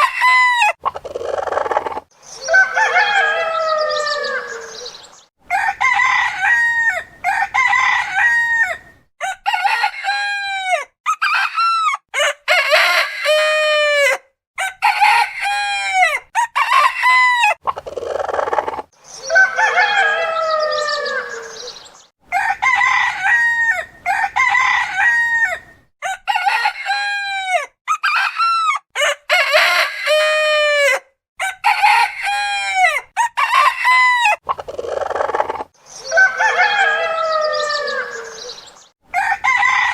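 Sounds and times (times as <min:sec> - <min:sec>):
roosters crowing: 0:00.0 - 0:01.8, 0:02.4 - 0:17.6, 0:18.2 - 0:39.9.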